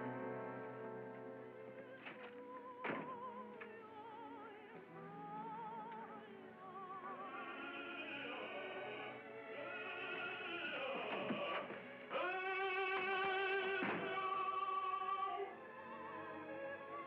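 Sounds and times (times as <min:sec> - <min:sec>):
operatic singing: 0:00.0 - 0:17.0
orchestra: 0:00.0 - 0:17.0.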